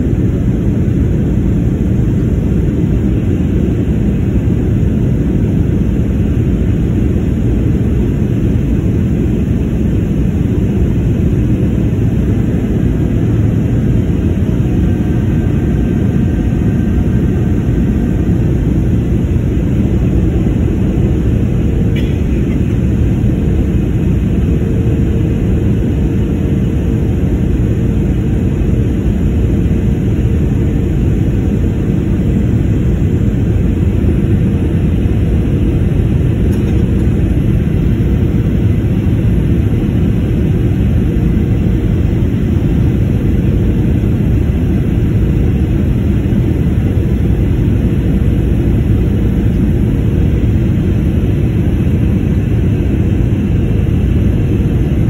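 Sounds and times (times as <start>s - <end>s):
airplane cabin engine noise: 0.0s - 55.0s
faint steady hum: 0.0s - 55.0s.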